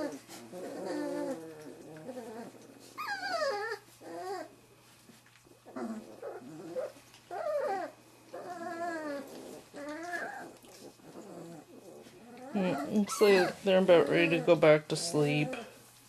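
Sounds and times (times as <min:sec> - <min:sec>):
puppies whimpering: 0:00.0 - 0:04.6, 0:05.6 - 0:15.7.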